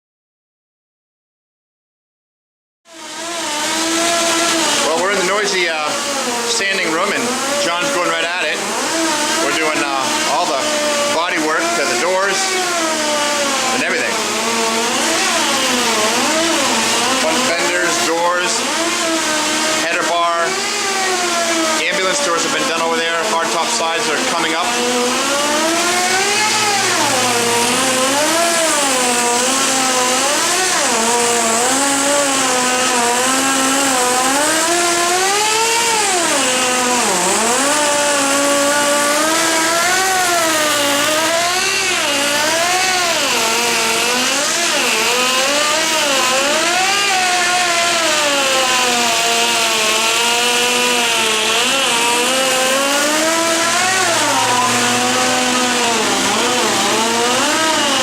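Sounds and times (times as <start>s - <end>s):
motor pitch rising and falling: 2.9s - 58.0s.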